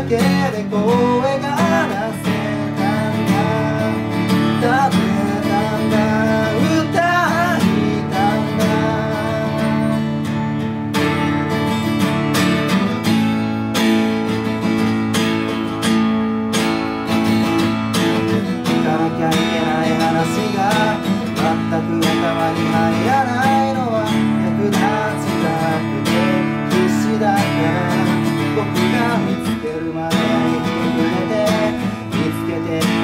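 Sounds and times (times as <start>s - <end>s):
man singing: 0.0s - 11.6s, 17.2s - 33.0s
acoustic guitar strumming: 0.0s - 33.0s.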